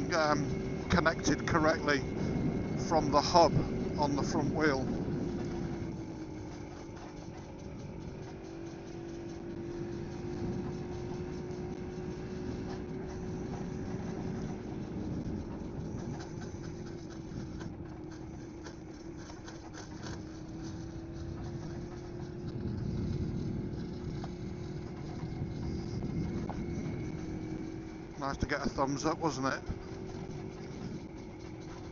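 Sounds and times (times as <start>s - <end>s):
motorcycle engine running: 0.0s - 31.9s
wind and road noise: 0.0s - 31.9s.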